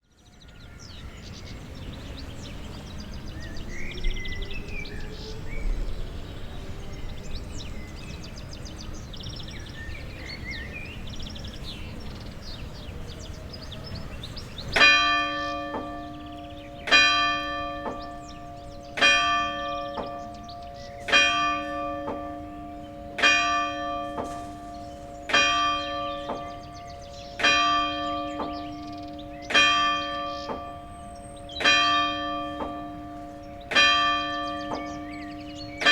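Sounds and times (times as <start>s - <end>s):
church bell striking: 6.5s - 35.9s.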